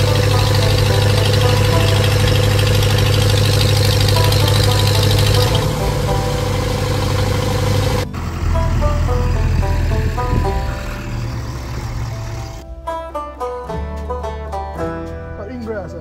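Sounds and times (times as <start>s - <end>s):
loader tractor engine running: 0.0s - 13.8s.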